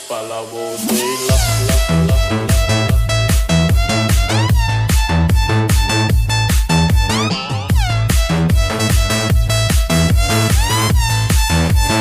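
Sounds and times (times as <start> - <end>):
kick drum beat: 1.3 - 12.0.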